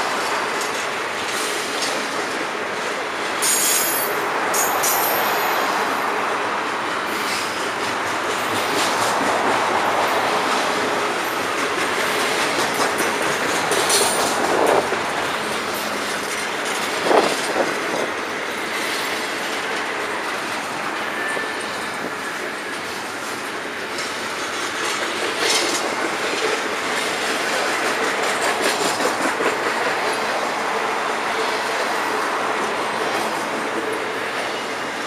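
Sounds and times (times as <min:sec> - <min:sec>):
freight train wheels on rail: 0:00.0 - 0:35.0.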